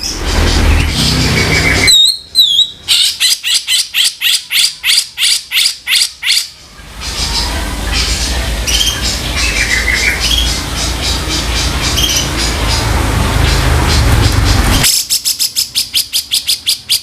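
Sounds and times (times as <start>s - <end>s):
bird chirps and warbles: 0.0s - 17.0s
bird harsh rasping calls: 0.0s - 17.0s.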